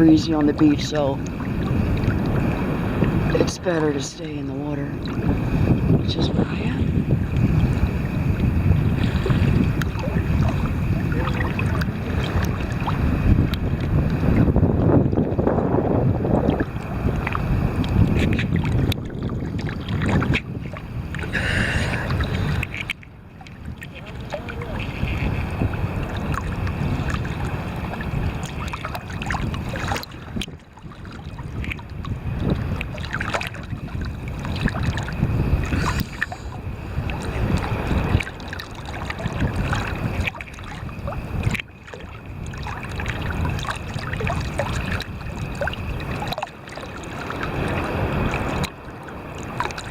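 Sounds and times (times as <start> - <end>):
water sloshing and splashing: 0.0 - 49.9
wind buffeting microphone: 0.0 - 49.9.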